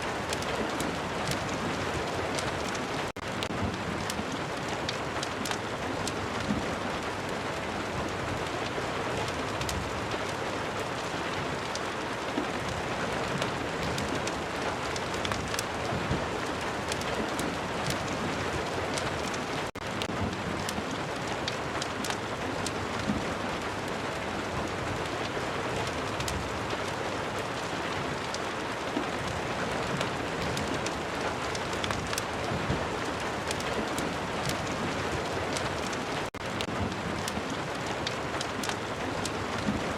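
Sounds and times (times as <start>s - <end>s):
sharp ticks of raindrops: 0.0s - 39.9s.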